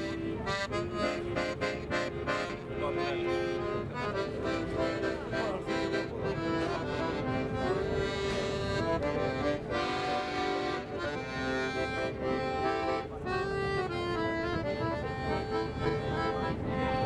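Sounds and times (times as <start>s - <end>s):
accordion playing a tune: 0.0s - 17.0s.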